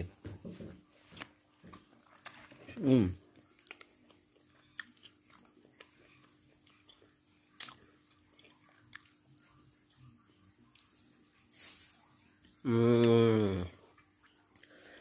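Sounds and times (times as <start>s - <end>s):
faint steady hum: 0.0s - 15.0s
faint chewing: 0.8s - 15.0s.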